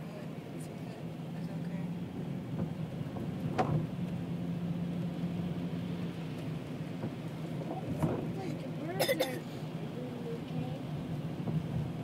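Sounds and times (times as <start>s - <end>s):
car engine hum and road rumble: 0.0s - 12.0s.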